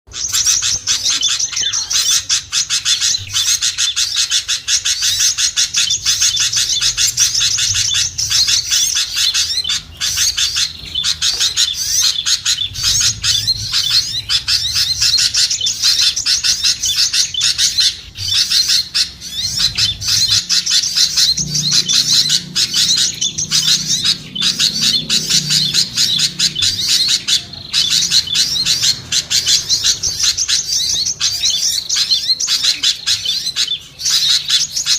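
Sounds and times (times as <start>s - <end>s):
songbirds chirping and twittering: 0.1s - 34.9s.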